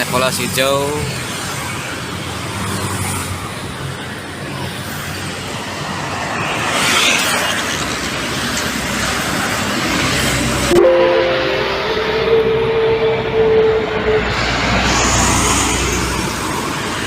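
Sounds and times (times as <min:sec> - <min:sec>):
highway traffic noise: 0:00.0 - 0:17.0.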